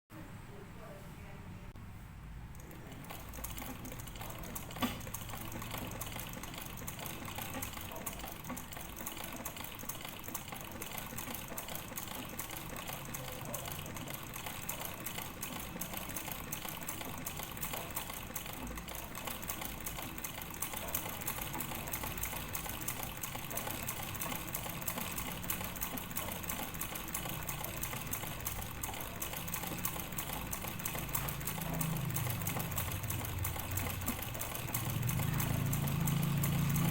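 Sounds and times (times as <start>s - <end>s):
sewing machine running: 2.5s - 36.9s.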